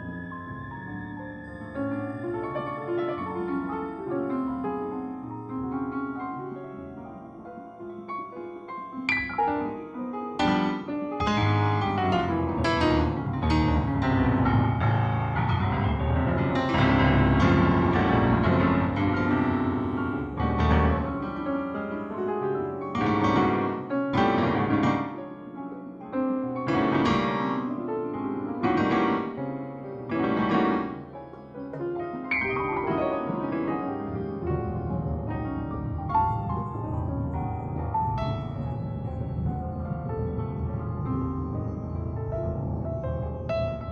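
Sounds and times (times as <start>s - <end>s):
piano keyboard music: 0.0s - 43.9s.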